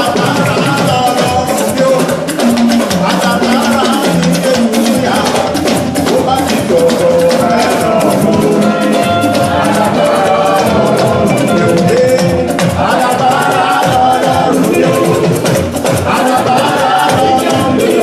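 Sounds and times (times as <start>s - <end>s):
drum and shaker beat: 0.0s - 18.0s
person singing: 0.0s - 18.0s
bass line: 3.0s - 18.0s.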